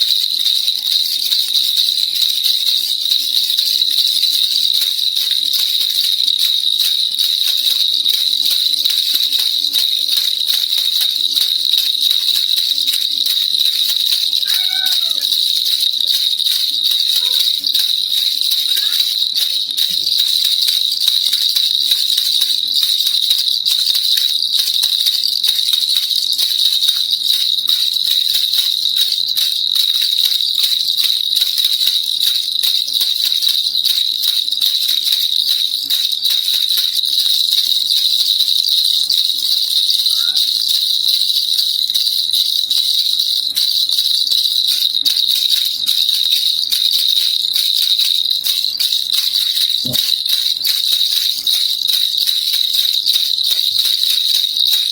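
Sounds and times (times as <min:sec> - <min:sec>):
baby rattle shaken: 0:00.0 - 0:54.9.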